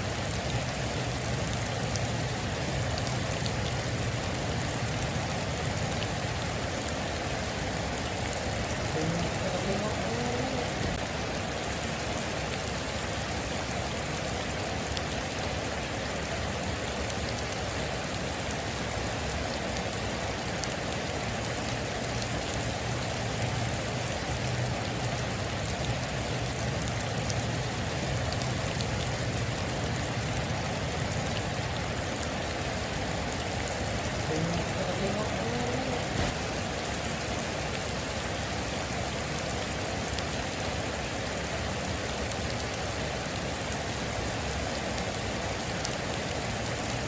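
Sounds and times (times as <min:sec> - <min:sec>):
heavy rain on a metal roof: 0:00.0 - 0:47.0.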